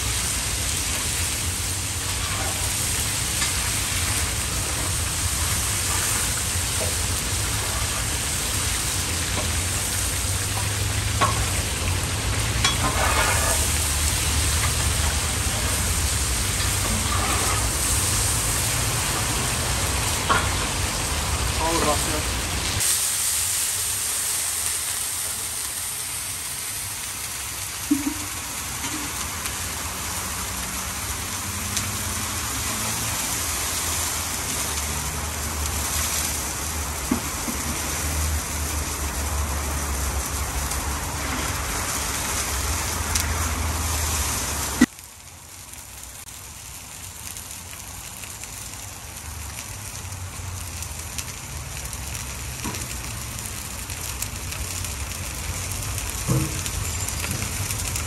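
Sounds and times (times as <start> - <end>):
water sizzling in a hot pot: 0.0 - 58.0.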